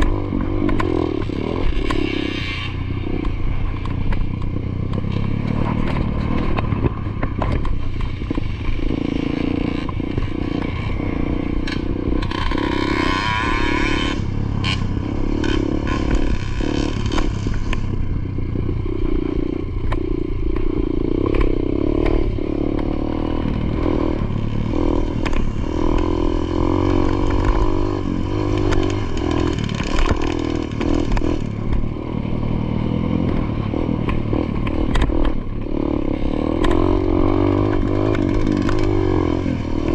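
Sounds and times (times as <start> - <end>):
dirt bike engine revving: 0.0 - 4.1, 4.9 - 18.0, 19.0 - 39.9.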